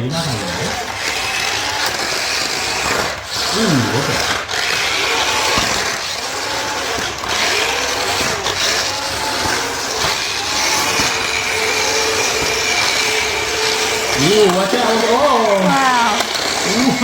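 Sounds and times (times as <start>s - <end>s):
toy car electric motors whining: 0.0s - 17.0s.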